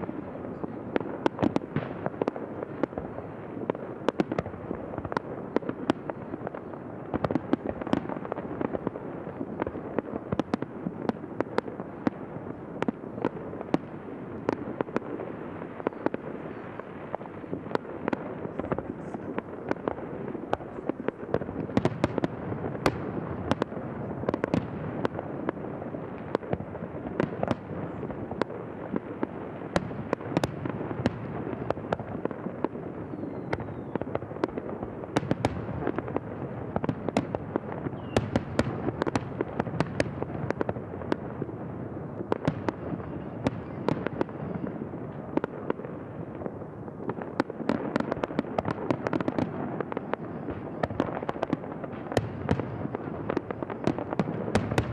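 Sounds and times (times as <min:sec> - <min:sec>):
fireworks bursts and cracks: 0:00.0 - 0:54.9.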